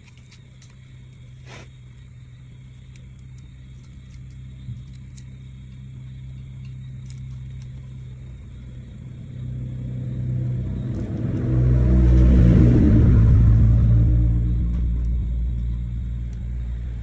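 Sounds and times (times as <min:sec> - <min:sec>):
low motor rumble: 0:00.0 - 0:17.0.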